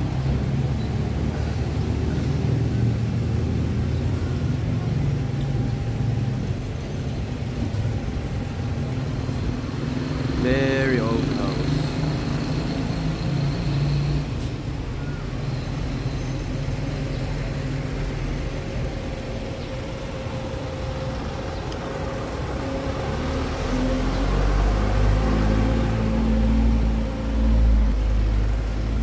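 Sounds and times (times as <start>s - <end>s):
vehicle engines running: 0.0s - 29.0s.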